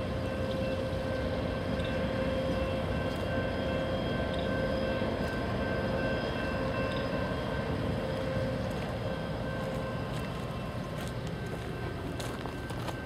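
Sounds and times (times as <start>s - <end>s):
diesel locomotive rumbling: 0.0s - 13.0s
locomotive whining: 0.0s - 13.0s.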